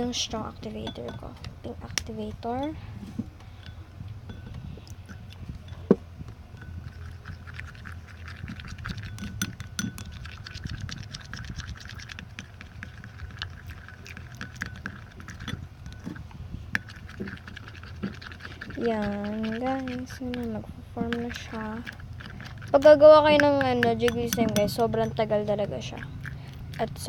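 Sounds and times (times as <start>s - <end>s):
slime being stirred: 0.0s - 2.9s, 3.5s - 27.0s
steady low hum: 0.0s - 27.0s.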